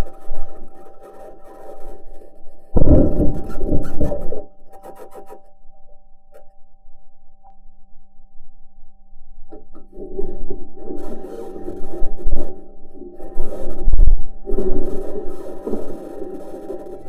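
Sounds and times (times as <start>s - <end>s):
electrical hum tones: 2.6s - 17.0s.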